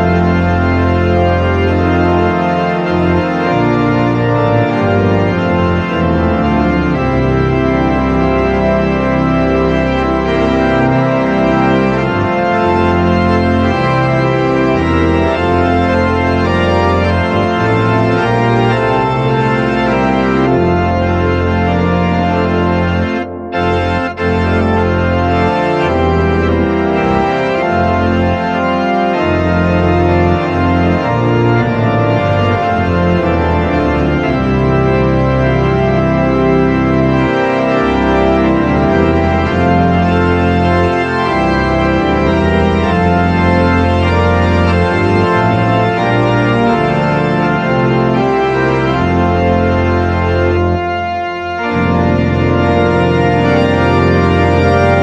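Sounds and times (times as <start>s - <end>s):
organ playing held chords: 0.0s - 55.0s.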